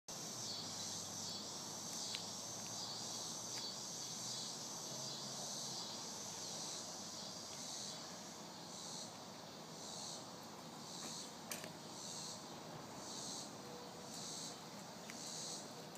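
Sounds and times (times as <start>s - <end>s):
insects calling: 0.1s - 15.9s.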